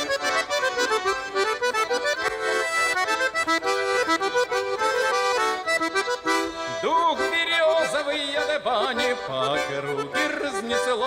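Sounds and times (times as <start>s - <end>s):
accordion folk tune: 0.0s - 11.0s.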